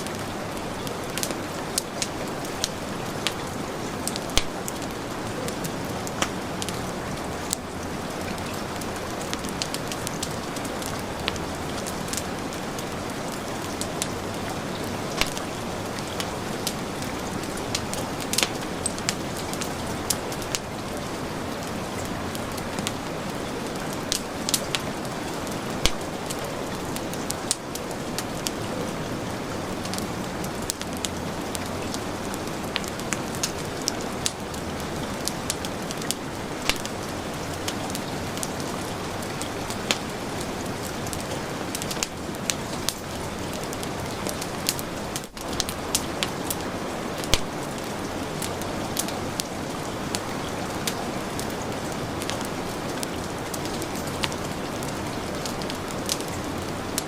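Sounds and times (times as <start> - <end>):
heavy rain: 0.0 - 57.0
wood fire crackling: 0.0 - 57.0.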